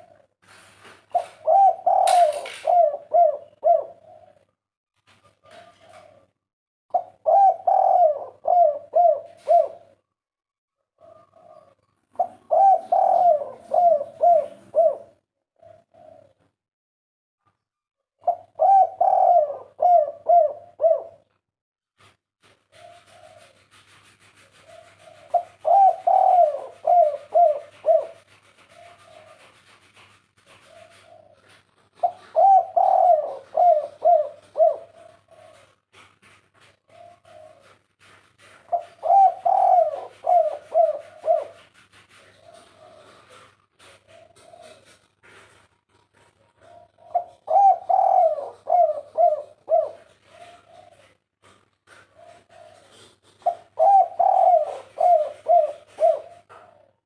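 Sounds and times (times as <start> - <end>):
dove cooing: 0.0 - 4.5, 5.2 - 6.3, 6.9 - 10.0, 11.0 - 16.4, 18.2 - 21.4, 22.7 - 57.0.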